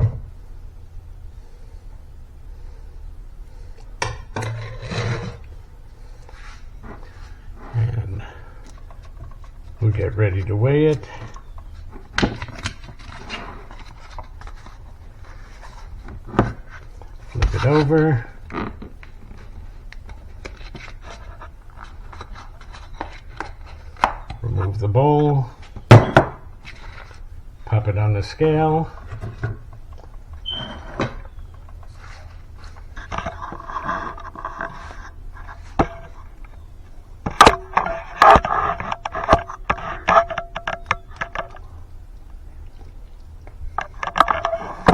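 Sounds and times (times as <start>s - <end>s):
scraping and rustling: 3.5s - 41.9s, 42.6s - 44.9s.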